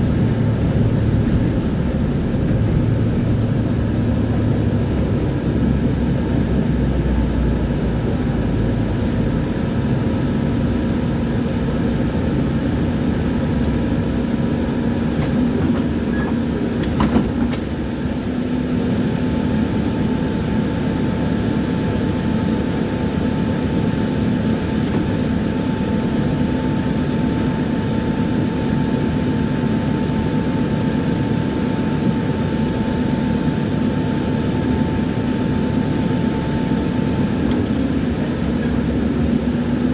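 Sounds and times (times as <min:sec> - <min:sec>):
tram rumbling on rails: 0:00.0 - 0:39.9.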